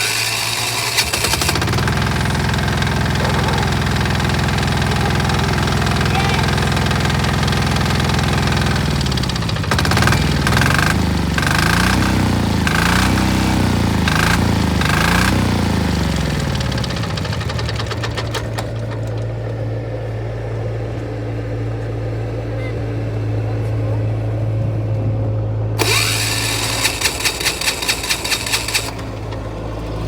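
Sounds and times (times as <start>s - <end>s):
diesel pump engine running: 0.0s - 30.0s.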